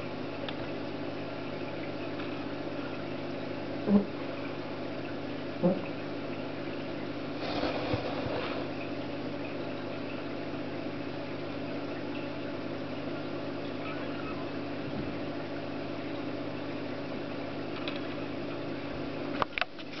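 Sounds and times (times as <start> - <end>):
small cooling fan humming: 0.0 - 20.0.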